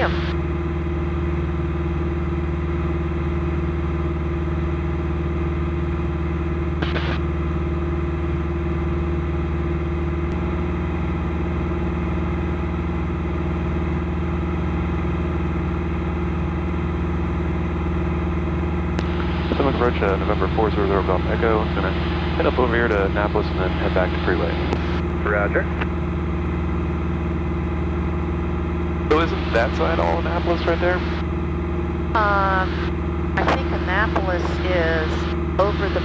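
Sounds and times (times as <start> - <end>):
propeller plane engine drone: 0.0 - 36.0.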